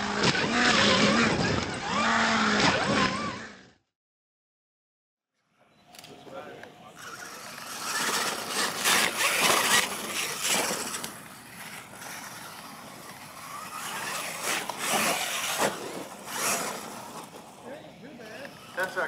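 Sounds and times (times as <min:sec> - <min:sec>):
toy truck motor and tyres on dirt: 0:00.0 - 0:03.9, 0:05.9 - 0:19.0.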